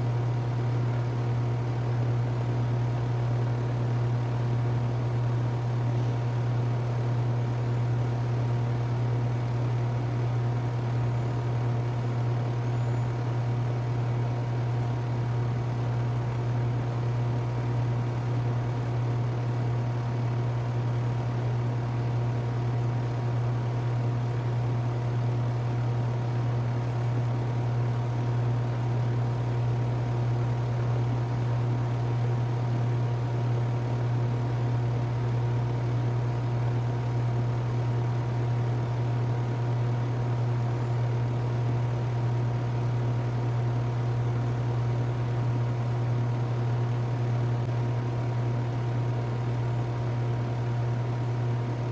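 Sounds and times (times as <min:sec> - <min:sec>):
heat pump humming: 0:00.0 - 0:51.9.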